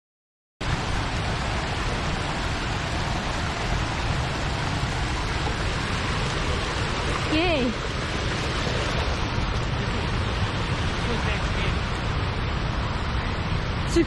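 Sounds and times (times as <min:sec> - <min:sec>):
brook running over rocks: 0:00.6 - 0:12.8.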